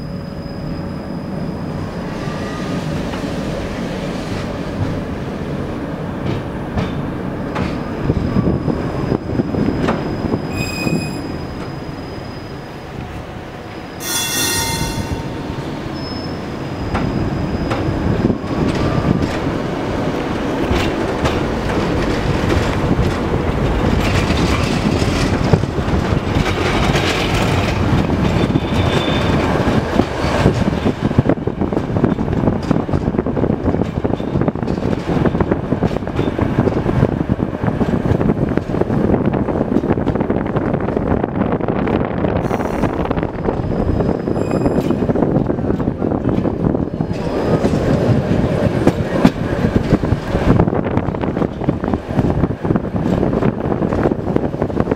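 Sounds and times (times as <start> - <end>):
tram wheels rumbling on rails: 0.0 - 54.9.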